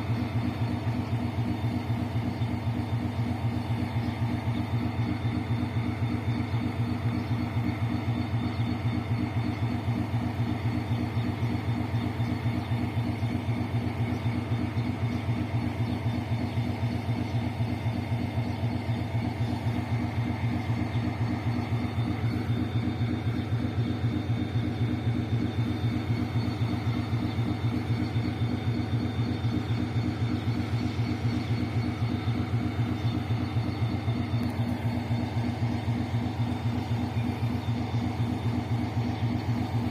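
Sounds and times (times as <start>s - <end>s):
locomotive engine droning: 0.0s - 39.9s.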